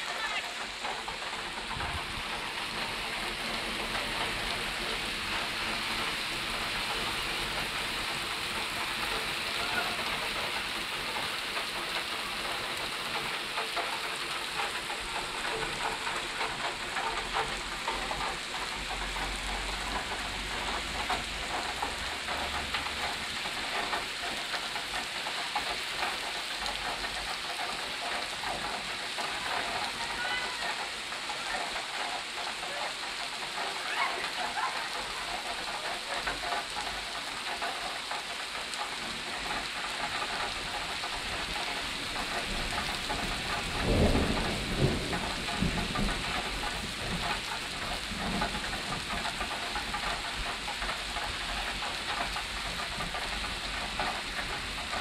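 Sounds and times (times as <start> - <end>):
rain on wet pavement: 0.0 - 55.0.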